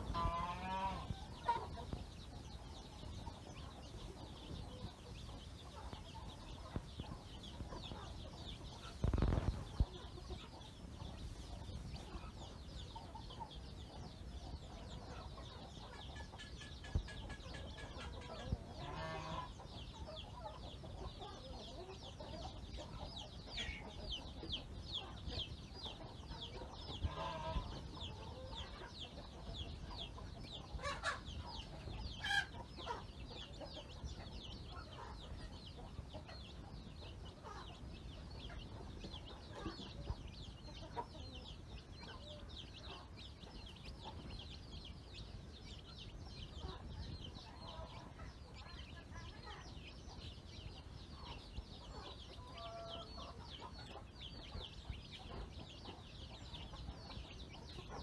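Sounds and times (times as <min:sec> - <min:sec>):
chicks peeping: 0:00.0 - 0:58.0
hen clucking: 0:00.0 - 0:58.0.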